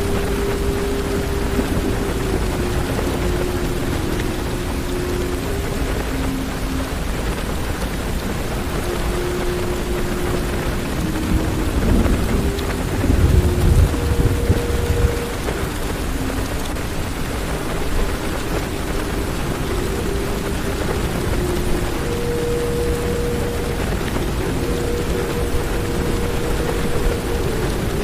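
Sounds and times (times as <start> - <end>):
heavy rain on car roof: 0.0 - 28.0
low rumble of thunder: 0.0 - 28.0.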